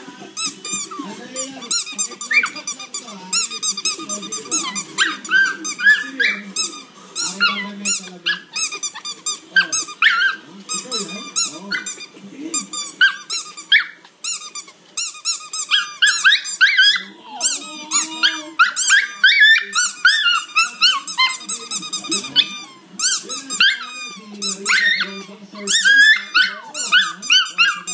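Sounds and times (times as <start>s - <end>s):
dog growling: 0.0s - 12.0s, 15.8s - 27.9s
squeaky toy squeaking: 0.4s - 27.9s.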